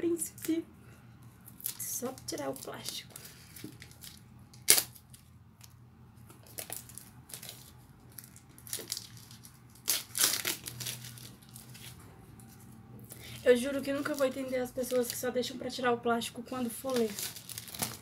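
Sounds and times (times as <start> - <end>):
plastic shrink wrap crinkling: 1.5 - 15.4, 16.6 - 18.0.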